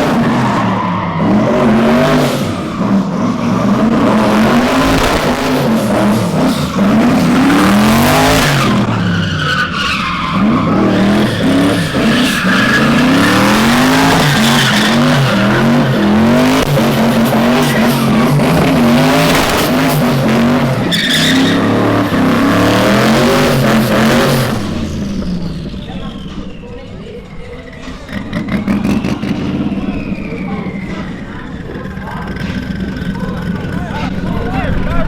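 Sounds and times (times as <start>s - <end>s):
car engine revving: 0.0s - 35.0s
tyres squealing: 5.6s - 34.2s.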